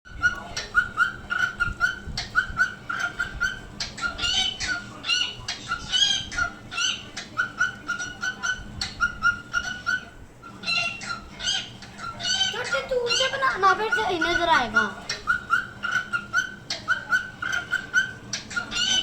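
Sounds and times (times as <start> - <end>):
parrot calling: 0.1 - 19.0.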